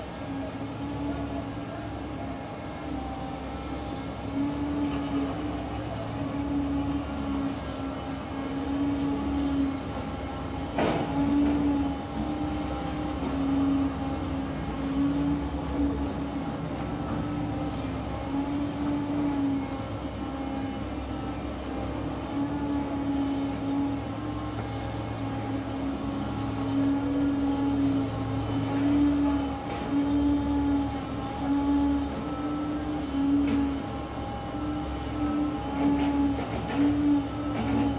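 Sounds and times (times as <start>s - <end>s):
excavator engine and hydraulics: 0.0s - 37.9s.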